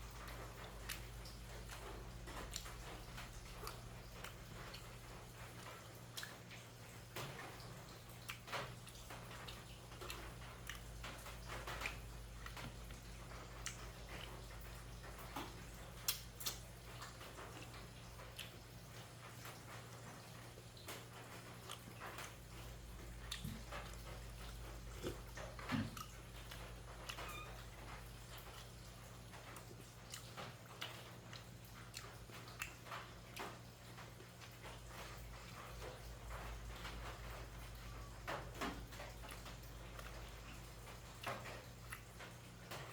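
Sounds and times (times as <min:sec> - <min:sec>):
low steady hum: 0:00.0 - 0:42.9
wet chewing smacks: 0:00.2 - 0:37.3, 0:38.3 - 0:42.9.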